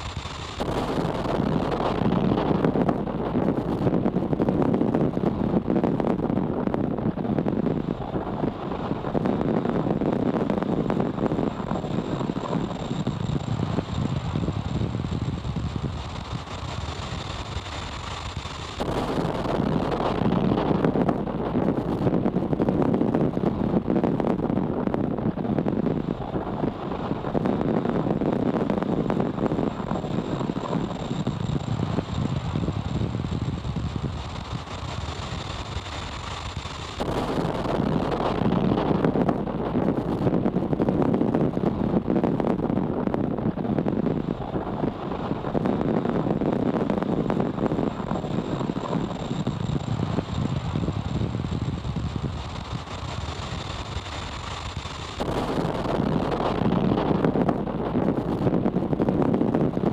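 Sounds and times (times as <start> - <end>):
steady rushing rumbling noise: 0.0 - 59.9.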